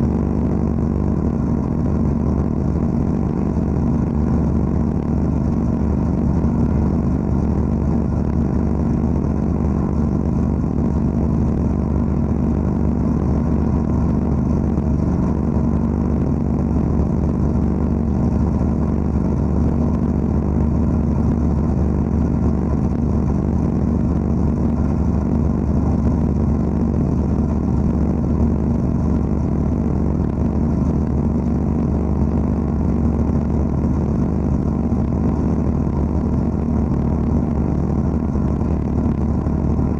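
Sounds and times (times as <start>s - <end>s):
blasting machine drone: 0.0s - 39.9s.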